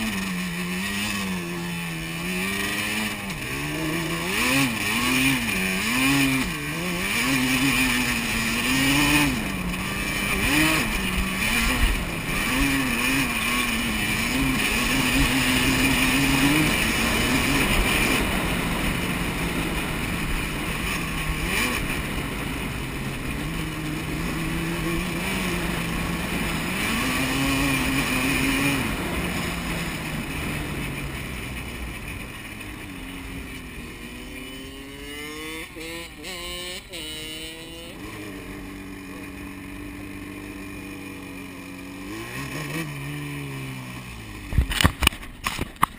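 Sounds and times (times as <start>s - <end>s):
quad engine revving: 0.0s - 45.9s.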